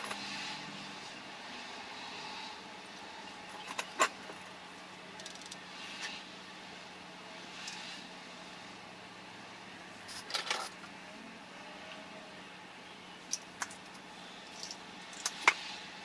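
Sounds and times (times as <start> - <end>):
faint hum and hiss: 0.0 - 16.0.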